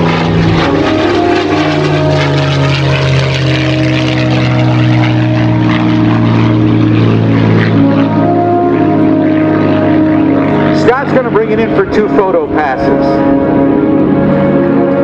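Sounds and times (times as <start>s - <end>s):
propeller aircraft engine in flight: 0.0s - 15.0s.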